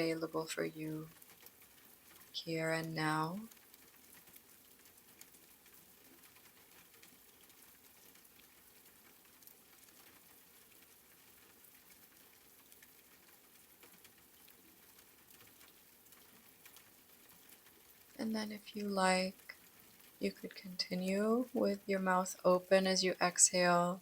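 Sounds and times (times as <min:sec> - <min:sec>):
faint rain patter: 0:00.0 - 0:24.0.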